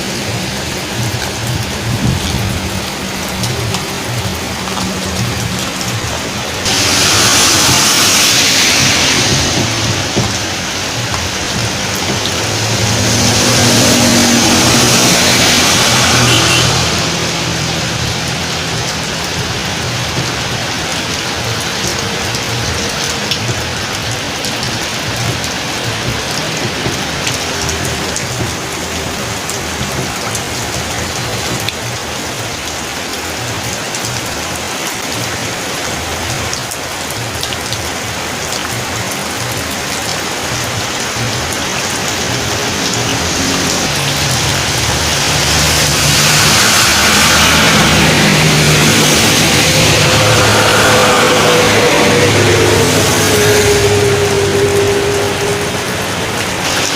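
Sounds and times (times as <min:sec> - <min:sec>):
vehicle engine approaching: 0:00.0 - 0:34.3, 0:34.9 - 0:56.9
heavy rain pattering: 0:00.0 - 0:56.9.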